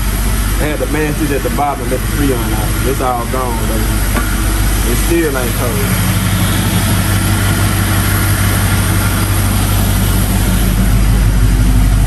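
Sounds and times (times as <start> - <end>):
air conditioning hiss: 0.0 - 12.0
car engine idling: 0.0 - 12.0.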